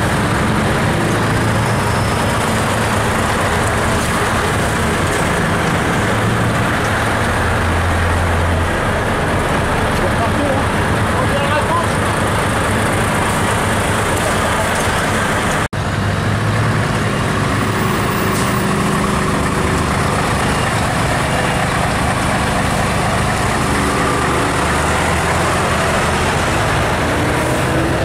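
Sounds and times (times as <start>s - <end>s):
truck diesel engines idling: 0.0s - 28.0s.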